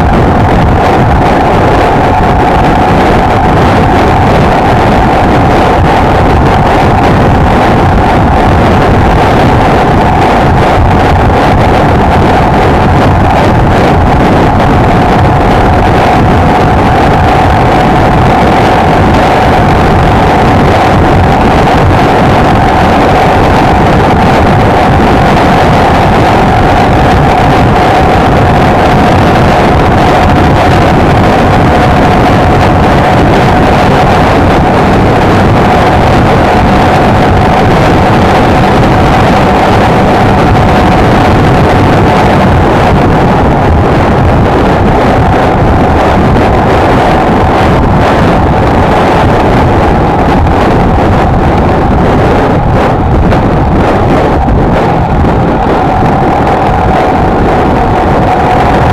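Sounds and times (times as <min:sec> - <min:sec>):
wind rushing over microphone: 0:00.0 - 0:58.9.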